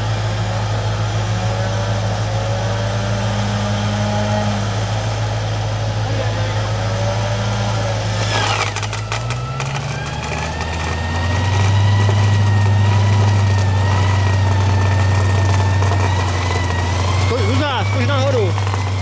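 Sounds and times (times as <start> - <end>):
engine running: 0.0 - 19.0
winch whine: 0.0 - 19.0.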